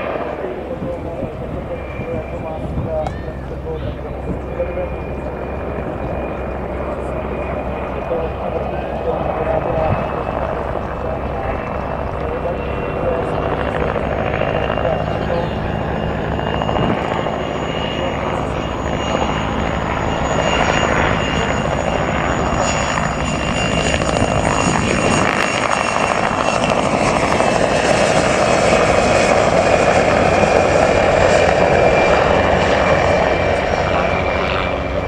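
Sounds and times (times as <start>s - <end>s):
helicopter engines whining: 0.0s - 35.0s
helicopter rotor beating: 0.0s - 35.0s.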